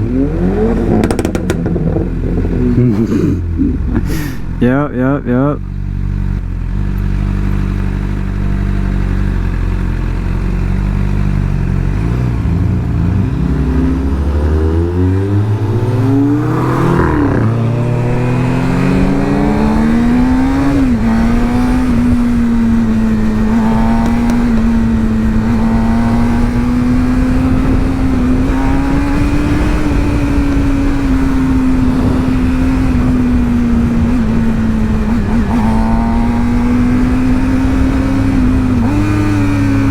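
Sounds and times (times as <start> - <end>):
rushing wind noise: 0.0 - 4.7, 11.9 - 39.9
motorcycle engine revving: 0.0 - 39.9.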